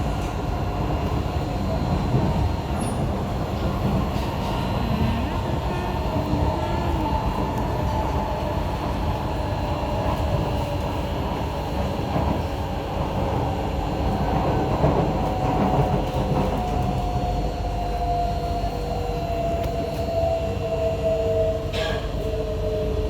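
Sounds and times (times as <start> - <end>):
faint train whine: 0.0 - 23.0
metro train rumbling on track: 0.0 - 23.0.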